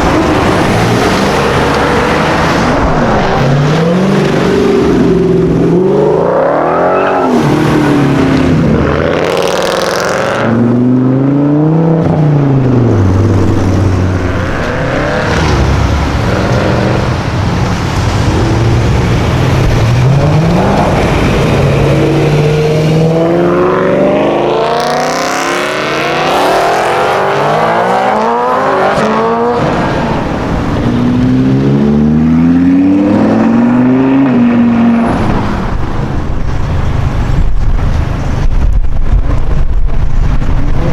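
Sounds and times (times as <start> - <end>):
cars passing by: 0.0 - 40.9
sports car engines accelerating: 0.0 - 40.9.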